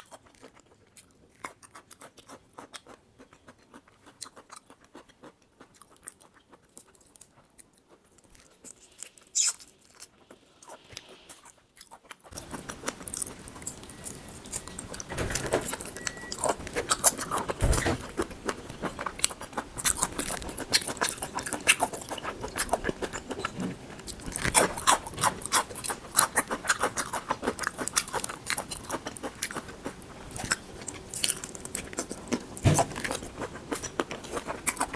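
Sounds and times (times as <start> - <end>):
mouth chewing and clicking: 0.0 - 34.9.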